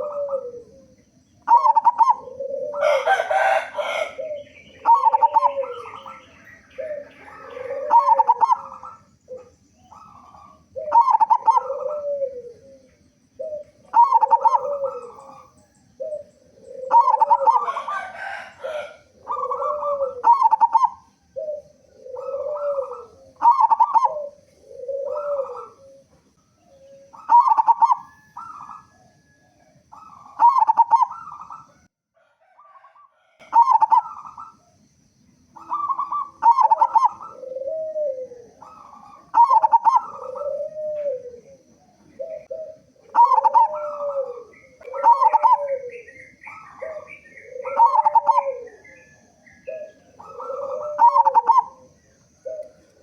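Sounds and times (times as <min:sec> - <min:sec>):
small birds chirping: 0:00.0 - 0:31.9, 0:33.4 - 0:53.0
dove cooing: 0:00.0 - 0:53.0.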